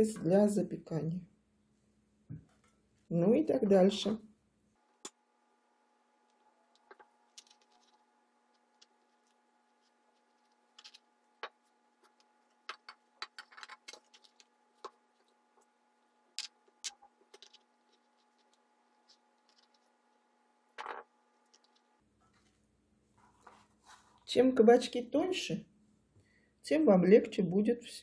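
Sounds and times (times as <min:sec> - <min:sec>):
faint hum: 0:00.0 - 0:26.7.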